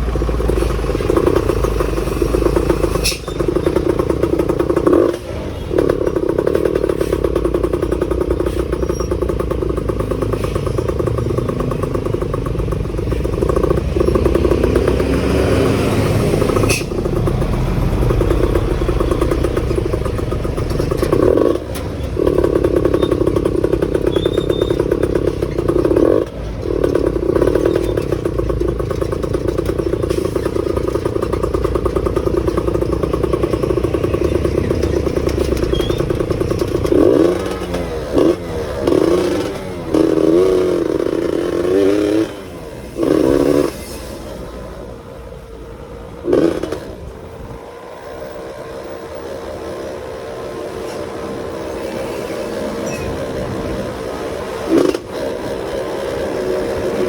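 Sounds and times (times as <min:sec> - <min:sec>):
motorcycle engine running: 0:00.0 - 0:43.8, 0:44.5 - 0:57.0.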